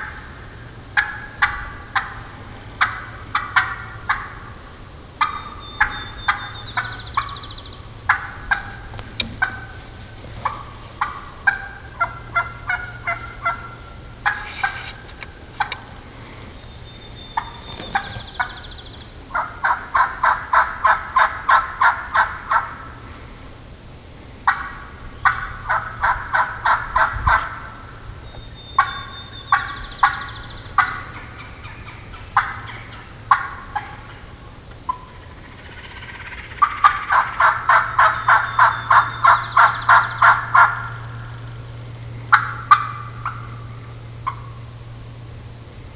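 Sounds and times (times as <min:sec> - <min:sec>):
turkey yelping: 0:00.0 - 0:22.9, 0:24.5 - 0:41.5, 0:42.3 - 0:44.8
turkey clucks: 0:00.0 - 0:23.0, 0:24.4 - 0:41.6, 0:42.2 - 0:44.8.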